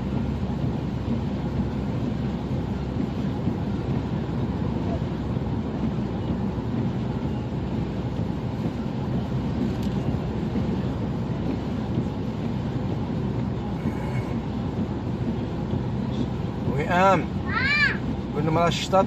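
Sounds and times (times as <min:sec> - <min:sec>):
car driving on motorway: 0:00.0 - 0:19.0.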